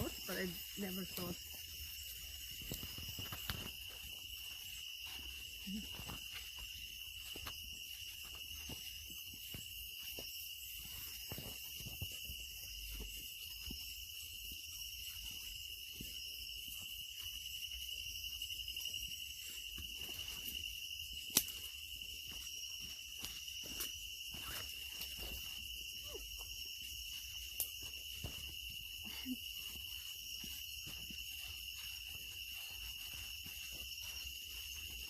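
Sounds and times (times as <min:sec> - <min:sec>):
insect chorus trilling: 0:00.0 - 0:35.0.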